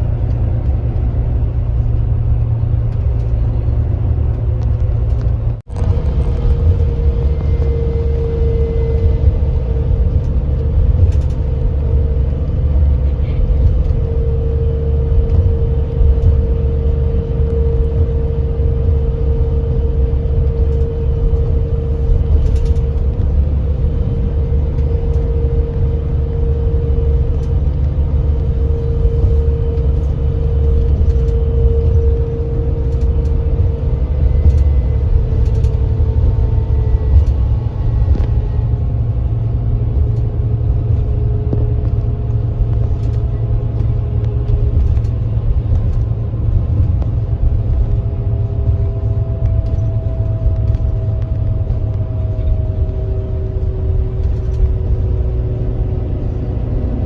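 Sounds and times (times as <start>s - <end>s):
coach engine and road rumble: 0.0s - 57.0s
steady whine: 0.0s - 57.0s.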